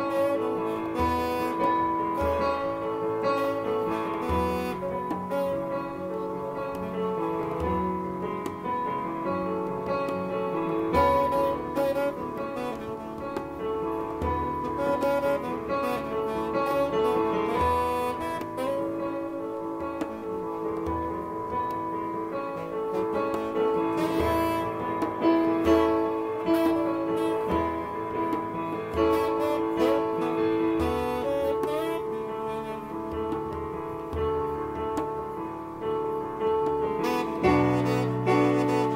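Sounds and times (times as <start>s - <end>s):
electronic keyboard chords: 0.0s - 38.9s
hand drum thumping: 0.0s - 38.9s
saxophone melody: 0.0s - 38.9s.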